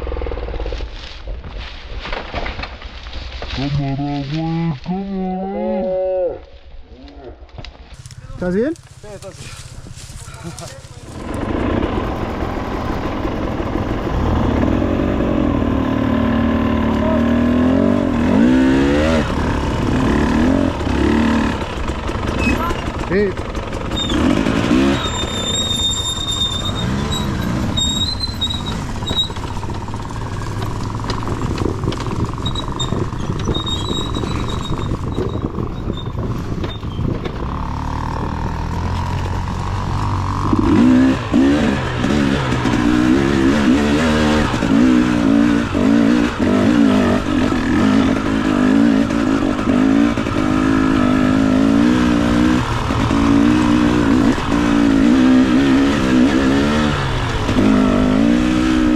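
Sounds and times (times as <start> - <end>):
dirt bike engine revving: 8.0 - 58.9.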